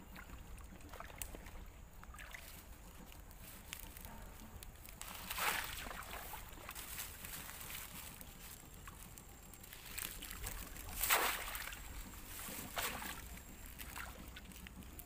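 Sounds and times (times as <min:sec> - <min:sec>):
water splashing and sloshing: 0:00.0 - 0:03.8, 0:05.0 - 0:08.1, 0:09.6 - 0:15.0.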